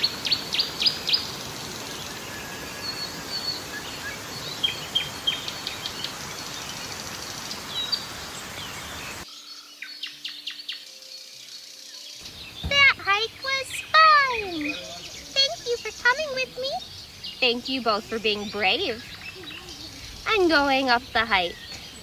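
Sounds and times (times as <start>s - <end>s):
steady hiss: 0.0s - 9.6s, 10.8s - 22.0s
birds chirping: 0.0s - 22.0s.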